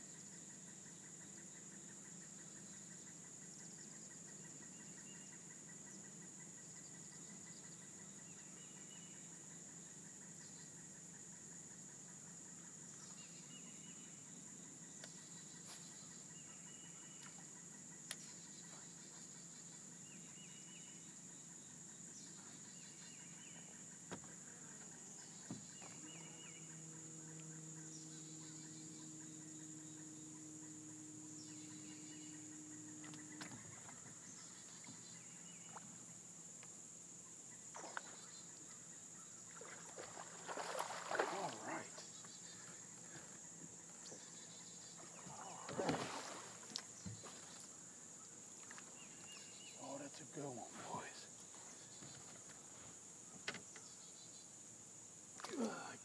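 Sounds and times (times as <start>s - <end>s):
faint distant motor hum: 0.0s - 56.0s.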